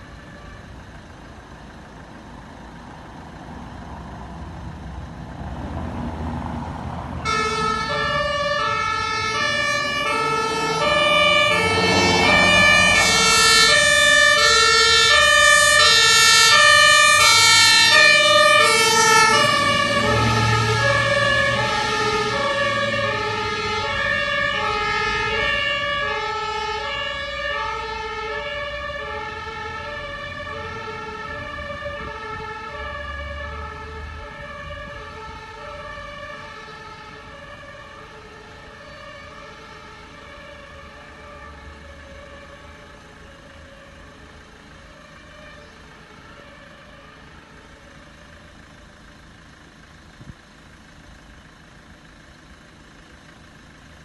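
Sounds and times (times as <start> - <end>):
two-tone fire engine siren: 0.0 - 4.1, 6.0 - 54.0.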